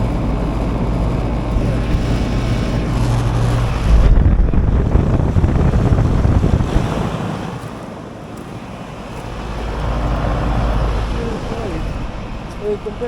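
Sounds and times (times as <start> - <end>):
air-conditioner unit humming: 0.0 - 13.0
wind buffeting microphone: 0.0 - 13.0.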